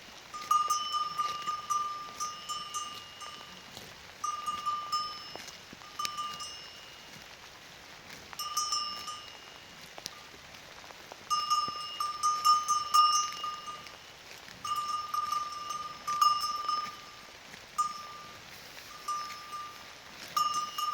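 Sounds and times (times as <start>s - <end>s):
cow bell clanking: 0.3s - 7.2s, 8.3s - 10.3s, 11.3s - 14.0s, 14.6s - 20.9s.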